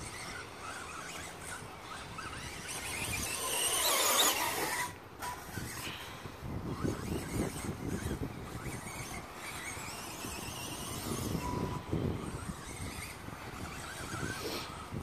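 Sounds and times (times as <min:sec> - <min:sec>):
electric toy car motor whine: 0:00.0 - 0:15.0.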